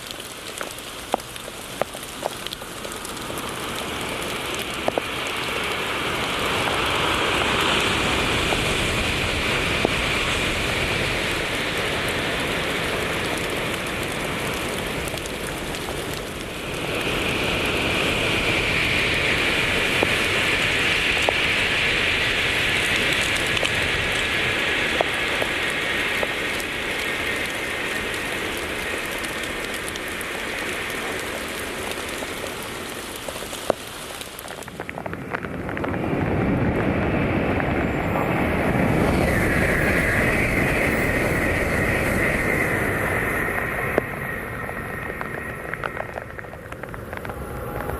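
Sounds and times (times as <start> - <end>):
heavy rain on hard surfaces: 0.0 - 47.9.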